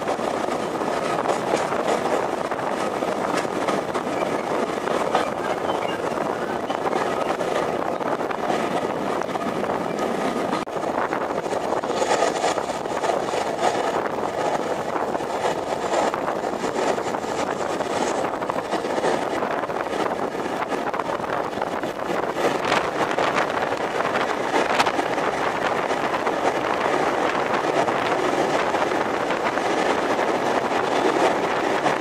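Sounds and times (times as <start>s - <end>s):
train running: 0.0s - 32.0s.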